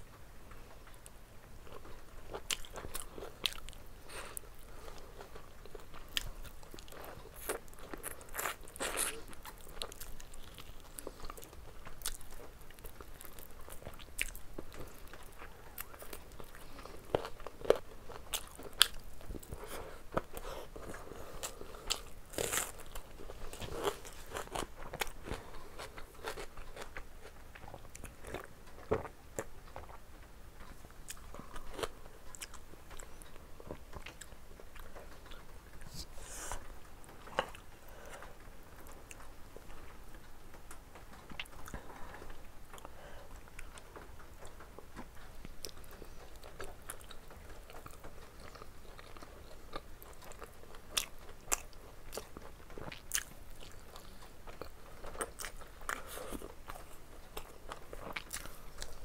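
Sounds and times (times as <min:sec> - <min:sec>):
person chewing meat: 0:00.6 - 0:30.0, 0:30.6 - 0:39.9, 0:41.2 - 0:59.0.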